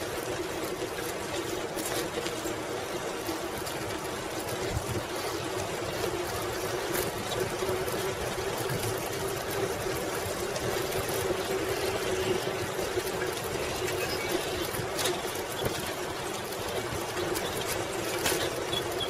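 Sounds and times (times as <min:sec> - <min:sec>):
bicycle tyres and drivetrain whirring: 0:00.0 - 0:19.0.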